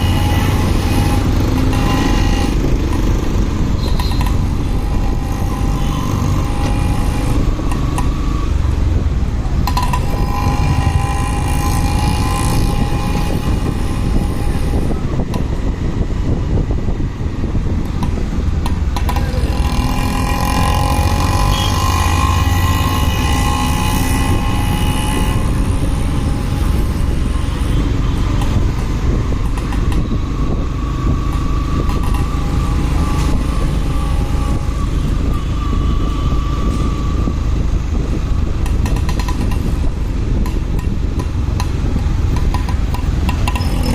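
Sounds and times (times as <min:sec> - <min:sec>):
motorcycle engine rumble: 0:00.0 - 0:43.9
whine shifting in pitch: 0:00.0 - 0:43.9
wind noise: 0:00.0 - 0:43.9.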